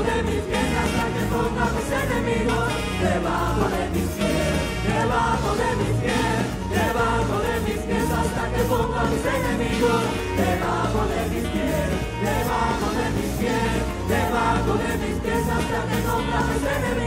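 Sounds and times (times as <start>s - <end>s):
choir and congregation singing: 0.0s - 17.0s
live band with drums: 2.6s - 16.8s.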